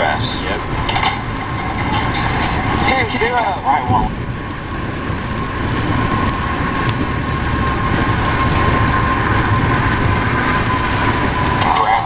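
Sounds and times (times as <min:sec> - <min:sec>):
road and engine rumble: 0:00.0 - 0:12.0
thin steady whine: 0:00.0 - 0:12.0
tyre spray and rain hiss: 0:00.0 - 0:12.0.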